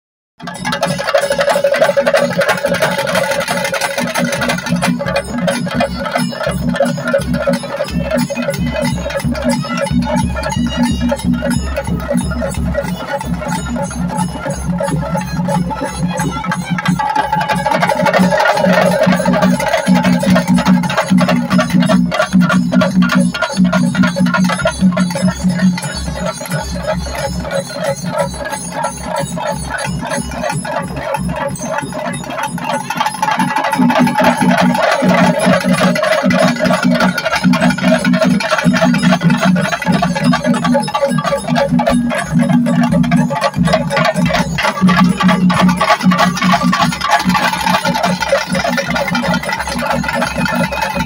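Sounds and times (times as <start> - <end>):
drum ensemble beating fast rhythm: 0.4 - 51.0.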